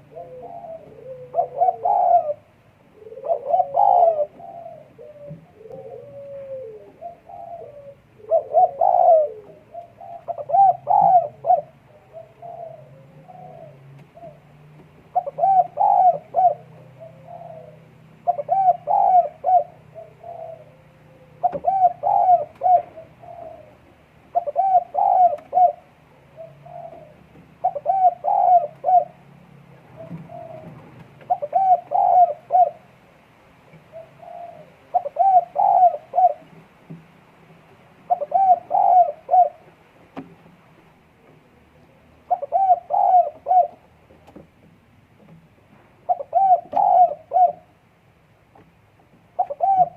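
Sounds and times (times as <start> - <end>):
doves cooing: 0.0 - 33.0, 33.7 - 36.8, 38.0 - 44.5, 45.6 - 47.8, 49.2 - 49.9.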